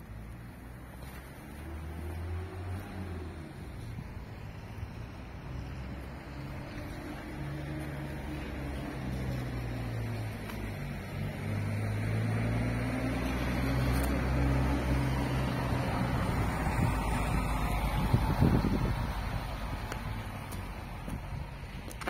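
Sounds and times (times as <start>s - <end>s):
engine running low hum: 0.0s - 22.0s.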